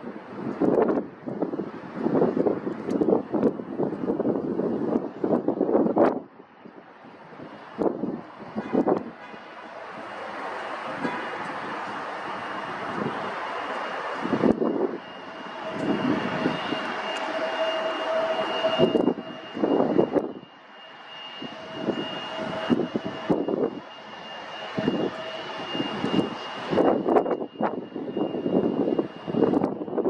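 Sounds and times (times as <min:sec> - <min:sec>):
wind buffeting microphone: 0:00.0 - 0:20.5, 0:21.1 - 0:30.0
airliner engines whining: 0:00.0 - 0:30.0.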